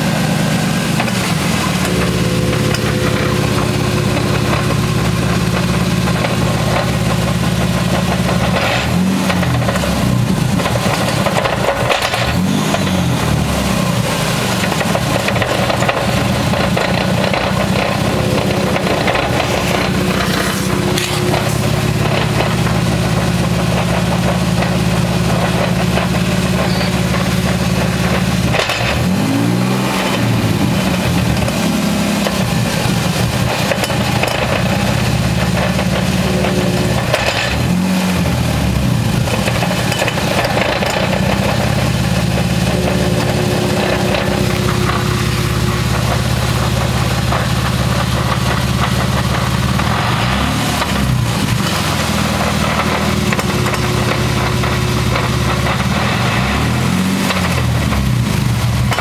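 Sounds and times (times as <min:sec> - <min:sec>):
car engine and wheel drone: 0:00.0 - 0:59.0.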